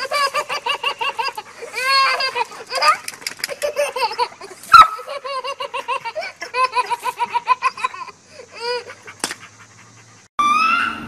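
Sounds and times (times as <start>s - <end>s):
toddler laughing: 0.0s - 9.1s.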